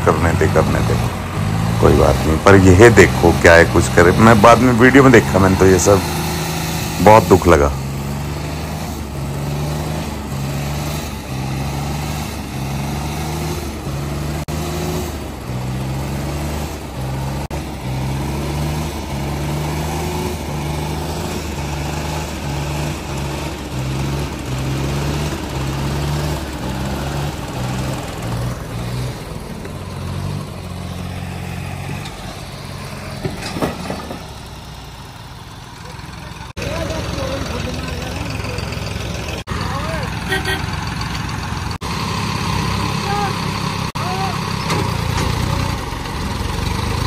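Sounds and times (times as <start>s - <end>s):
tractor diesel engines under load: 0.0s - 47.0s.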